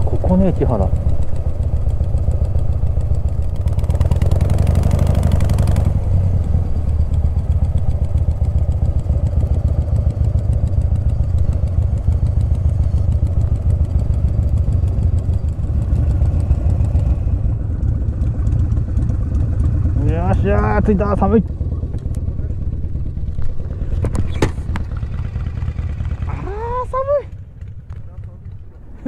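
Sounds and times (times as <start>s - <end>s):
motorcycle engine running slowly: 0.0s - 29.0s.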